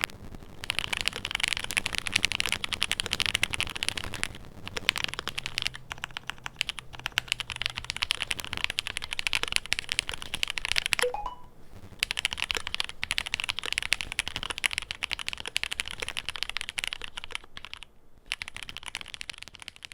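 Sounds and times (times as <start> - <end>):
fast mechanical keyboard typing: 0.6 - 11.1, 12.0 - 19.9.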